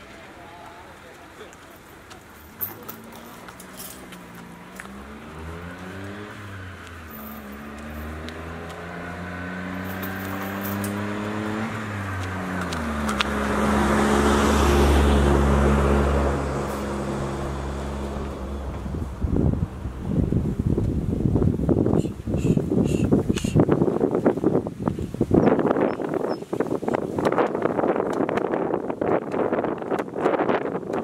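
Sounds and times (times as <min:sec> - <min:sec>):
van engine and tyres passing: 0:01.7 - 0:31.0.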